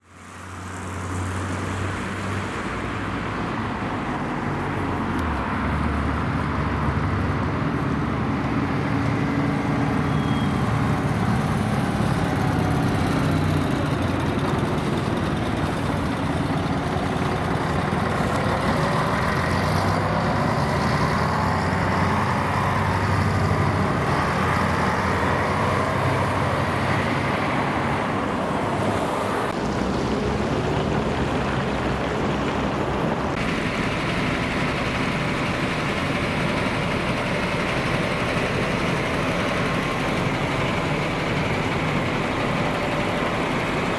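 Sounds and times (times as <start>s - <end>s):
bus engine running: 0.0s - 43.9s.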